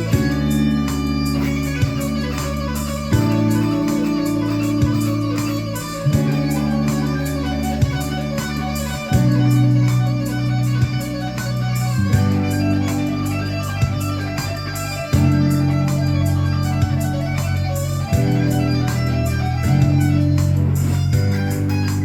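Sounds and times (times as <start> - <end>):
steady beat: 0.0 - 22.0
sustained instrumental chords: 0.0 - 22.0.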